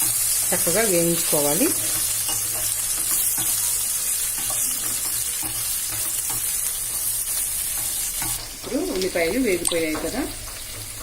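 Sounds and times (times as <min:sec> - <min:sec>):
onions sizzling in oil: 0:00.0 - 0:11.0
stirring strokes scraping pan: 0:00.0 - 0:11.0.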